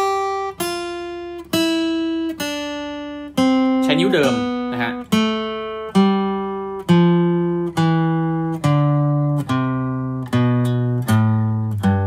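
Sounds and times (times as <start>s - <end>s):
acoustic guitar picked notes: 0.0s - 12.0s.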